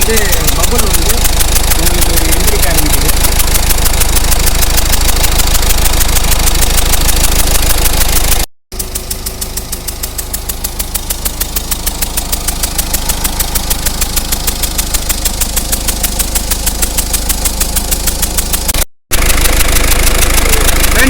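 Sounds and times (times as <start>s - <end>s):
diesel engine idling: 0.0s - 21.0s
injector puffing tick: 0.0s - 21.0s.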